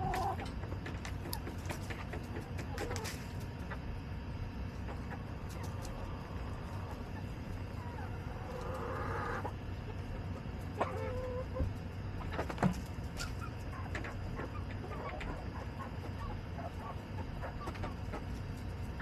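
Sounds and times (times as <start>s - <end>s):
hens clucking: 0.0s - 19.0s
low background rumble: 0.0s - 19.0s.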